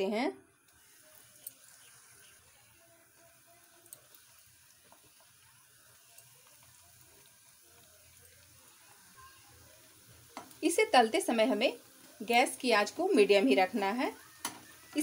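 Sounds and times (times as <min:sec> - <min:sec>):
bread frying in oil: 0:00.0 - 0:15.0.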